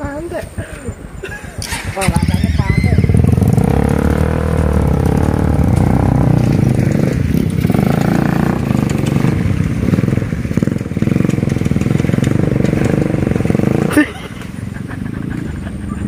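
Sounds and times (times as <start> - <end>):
motorcycle engine revving: 1.6 - 16.0.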